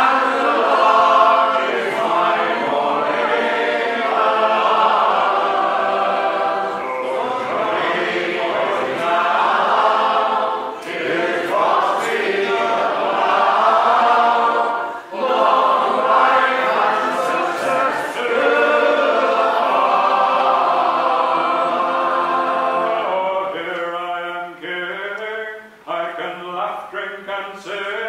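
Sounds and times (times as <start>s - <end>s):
audience singing along: 0.0s - 26.0s
men singing in harmony: 0.0s - 28.0s.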